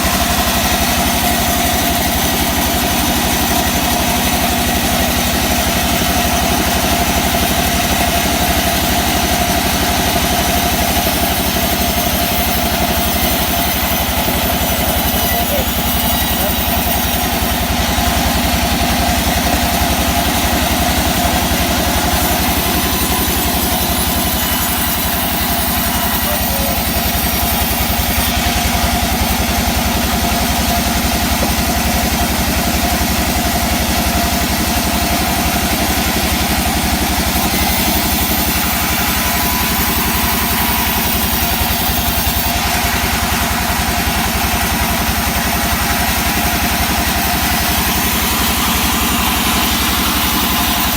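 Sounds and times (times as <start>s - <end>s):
sawmill machinery drone: 0.0s - 50.9s.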